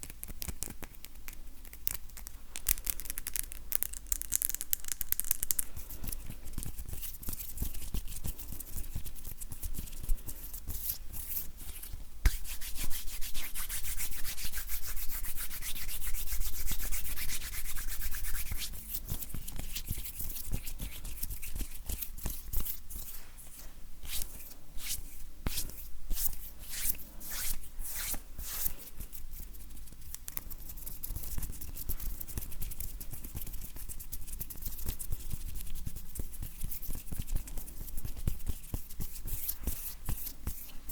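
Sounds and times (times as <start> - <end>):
hands rubbing together: 1.7 - 40.9.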